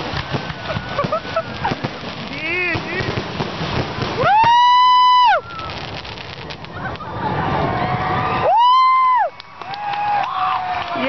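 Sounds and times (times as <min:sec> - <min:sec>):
firework whistle: 0:00.0 - 0:03.2, 0:04.0 - 0:10.3
fireworks crackling: 0:00.0 - 0:11.0.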